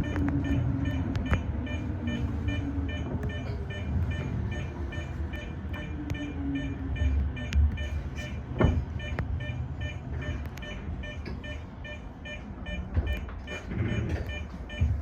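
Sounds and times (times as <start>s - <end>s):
rapid high beeping: 0.0s - 15.0s
train rumbling: 0.0s - 15.0s.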